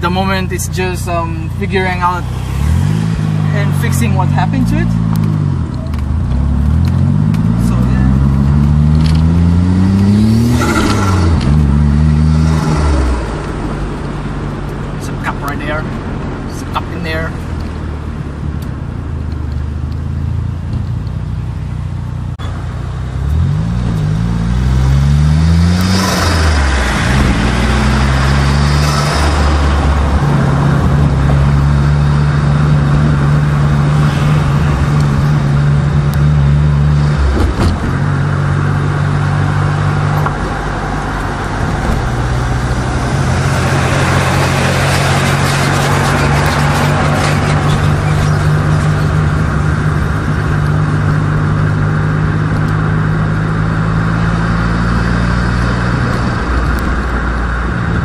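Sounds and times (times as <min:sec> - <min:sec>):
car engine revving: 0:00.0 - 0:58.0
road noise: 0:00.0 - 0:58.0.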